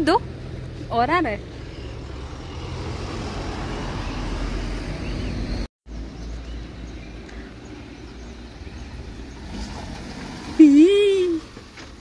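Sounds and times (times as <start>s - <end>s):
motor vehicle on road: 0.0s - 12.0s.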